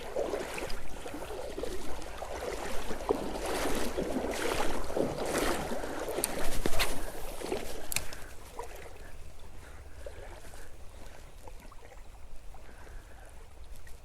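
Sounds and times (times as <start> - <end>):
creek flowing: 0.0 - 14.0
water splashing from wading: 0.0 - 14.0.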